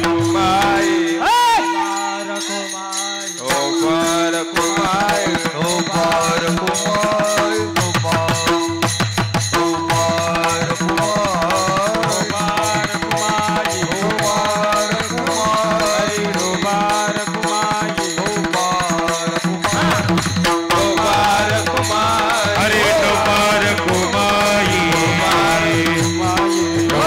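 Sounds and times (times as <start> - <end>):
hand drums playing: 0.0 - 1.9, 3.4 - 27.0.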